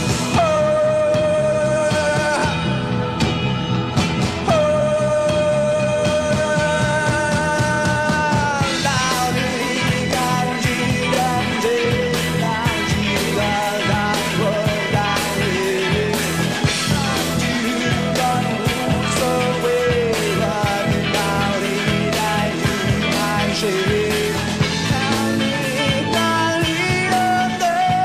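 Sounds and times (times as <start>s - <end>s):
rock band with man singing: 0.0s - 28.0s
steady drum beats: 0.0s - 28.0s.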